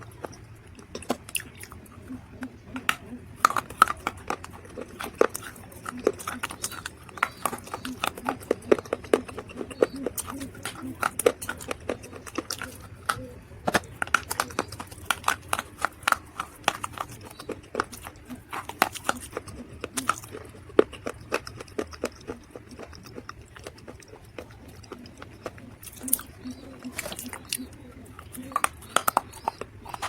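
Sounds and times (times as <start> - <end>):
dried mud crunching: 2.4 - 30.0.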